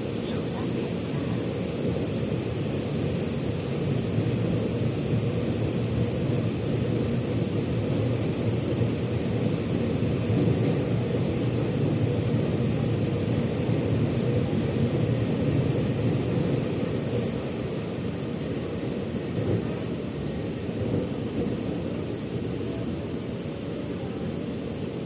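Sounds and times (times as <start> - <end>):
metro train rumbling: 0.0 - 25.0
train hiss: 0.0 - 25.0.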